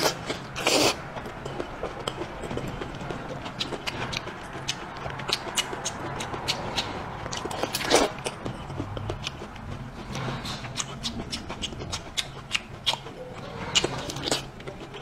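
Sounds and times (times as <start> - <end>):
wet chewing mouth clicks: 0.0 - 15.0.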